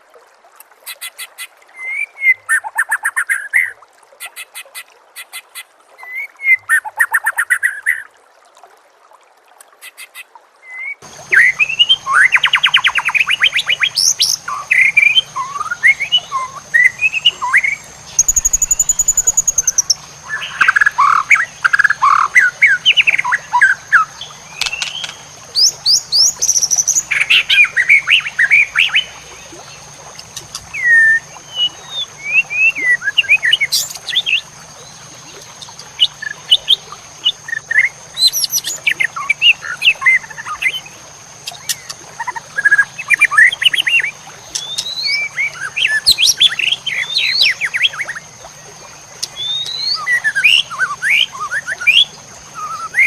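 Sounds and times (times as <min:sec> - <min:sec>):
songbird chirps and trills: 0:09.6 - 0:53.0.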